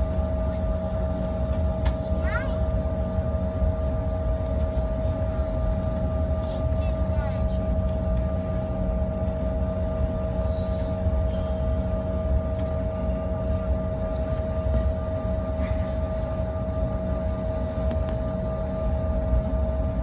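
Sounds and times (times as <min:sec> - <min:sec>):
faint high whine: 0:00.0 - 0:20.0
low engine rumble: 0:00.0 - 0:20.0
mid-pitched jet whine: 0:00.0 - 0:20.0.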